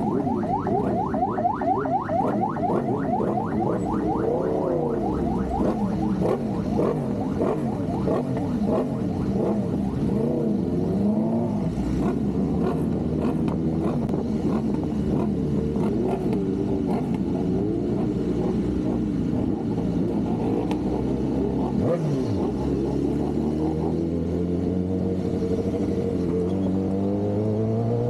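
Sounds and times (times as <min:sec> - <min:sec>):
superbike engines revving: 0:00.0 - 0:28.0.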